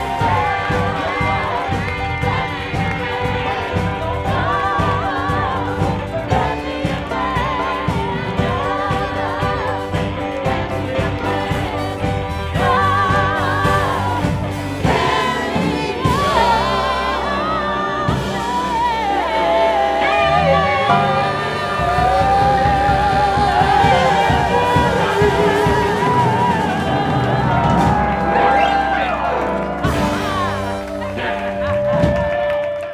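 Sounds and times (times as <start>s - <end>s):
band playing steady beat: 0.0s - 32.6s
person singing: 0.0s - 32.9s.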